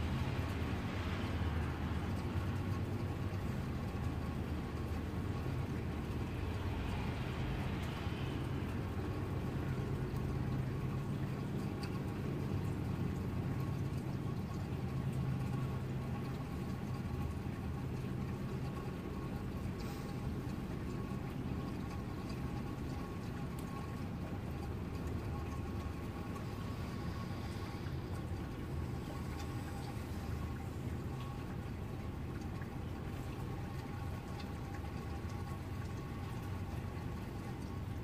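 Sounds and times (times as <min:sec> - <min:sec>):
low mechanical hum: 0:00.0 - 0:38.0
steady rain hiss: 0:00.0 - 0:38.0.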